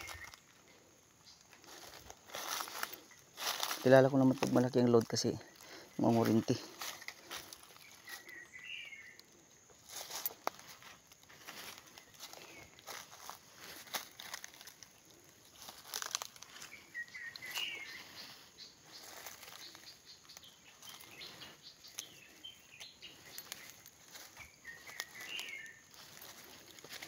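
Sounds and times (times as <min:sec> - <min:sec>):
bird chirping: 0:00.0 - 0:27.0
footsteps crunching dry leaves: 0:00.0 - 0:27.0.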